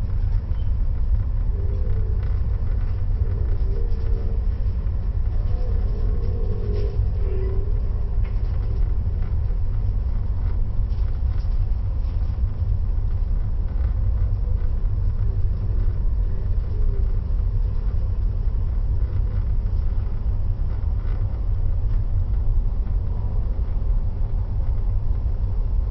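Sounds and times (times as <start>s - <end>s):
vehicle rumble: 0.0s - 25.9s.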